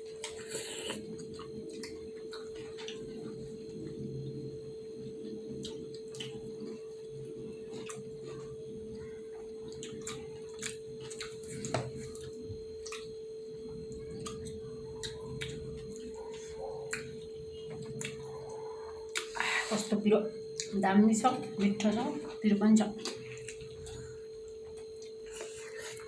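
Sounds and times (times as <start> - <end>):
people chewing and lip smacking: 0.0 - 20.8, 21.5 - 26.0
steady hum: 0.0 - 26.0.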